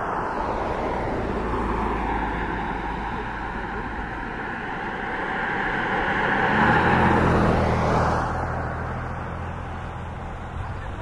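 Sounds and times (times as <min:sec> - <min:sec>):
car passing by: 0:00.0 - 0:11.0.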